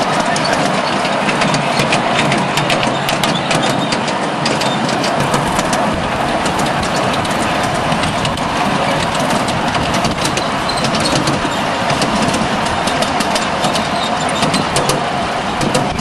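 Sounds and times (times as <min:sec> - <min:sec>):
steam locomotive rushing: 0:00.0 - 0:16.0
wheels clicking on rails: 0:00.0 - 0:16.0.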